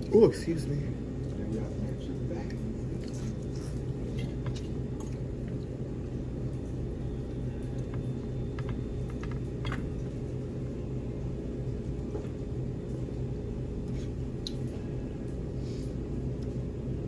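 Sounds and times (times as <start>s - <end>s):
steady low hum: 0.0s - 17.0s
soft chewing: 0.9s - 16.8s.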